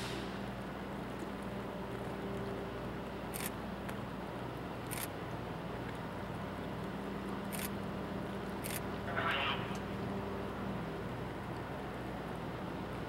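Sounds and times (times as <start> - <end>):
ship engines droning: 0.0 - 13.0.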